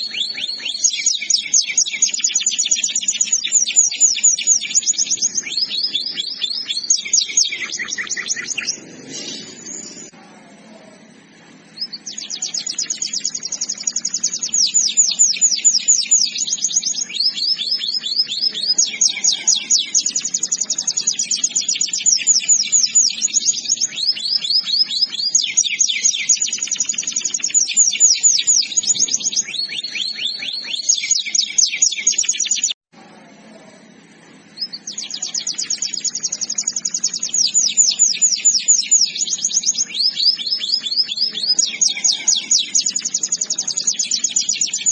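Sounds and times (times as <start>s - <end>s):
canary singing trills: 0.0s - 32.8s, 33.8s - 44.9s
faint low hum: 0.0s - 44.9s.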